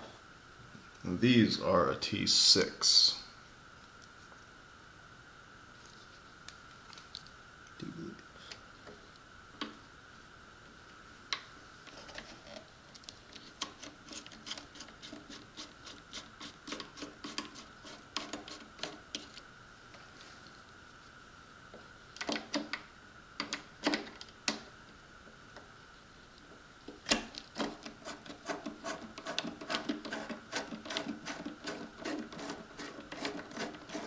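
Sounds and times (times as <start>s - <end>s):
faint high-pitched hum: 0.0s - 34.0s.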